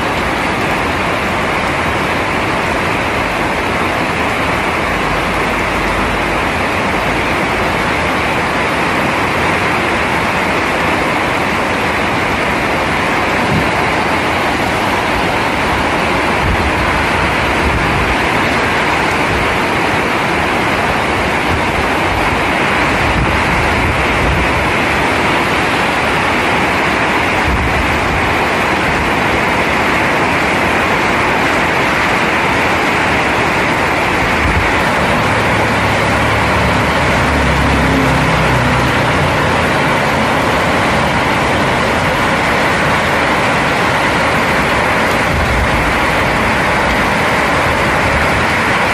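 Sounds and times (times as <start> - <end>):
heavy rain hissing: 0.0 - 48.9.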